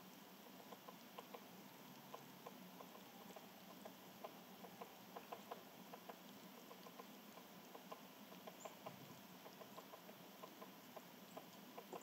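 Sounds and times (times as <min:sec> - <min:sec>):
faint light ticks: 0:00.0 - 0:12.0.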